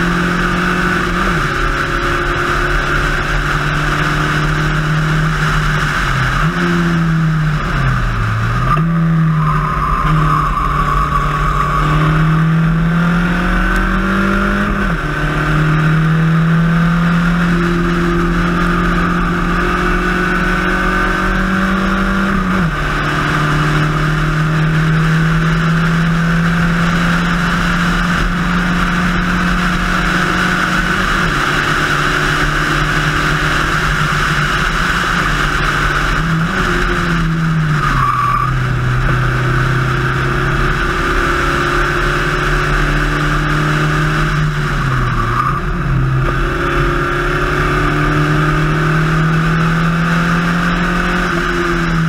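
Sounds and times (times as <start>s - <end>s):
race car engine at high revs: 0.0s - 52.0s
road and wind noise: 0.0s - 52.0s.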